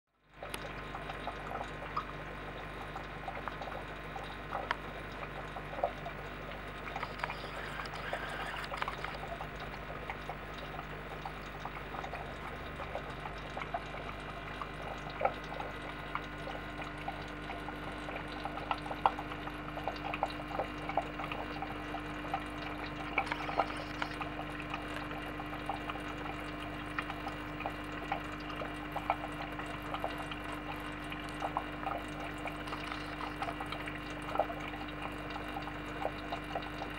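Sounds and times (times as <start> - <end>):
aquarium water bubbling and trickling: 0.2 - 36.9
low hum: 2.3 - 20.6, 21.3 - 28.4, 29.0 - 34.0.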